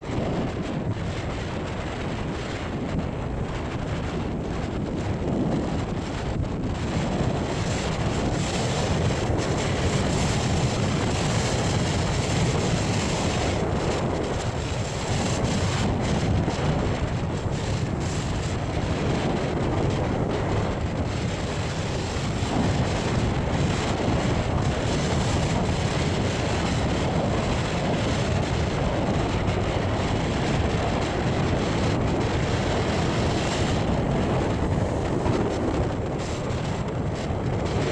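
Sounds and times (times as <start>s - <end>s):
rough sea surf: 0.0s - 37.9s
storm wind blasting microphone: 0.0s - 37.9s.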